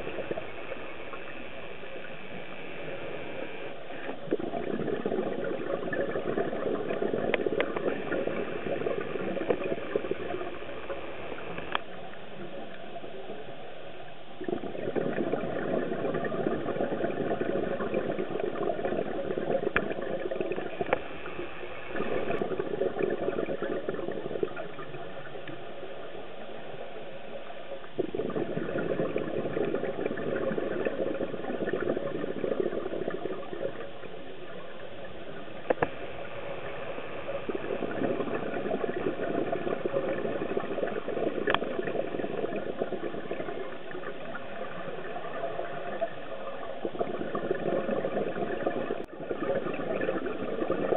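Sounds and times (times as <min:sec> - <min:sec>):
exhaled air bubbling underwater: 0:00.0 - 0:50.9.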